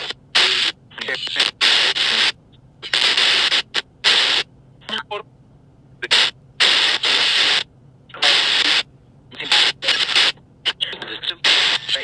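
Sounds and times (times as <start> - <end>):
bursts of hissing static: 0.0 - 4.5, 6.0 - 12.0.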